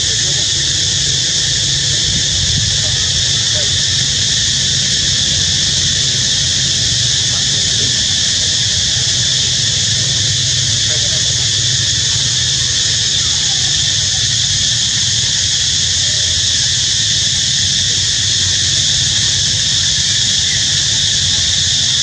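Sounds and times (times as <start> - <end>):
insect chorus droning: 0.0 - 22.0.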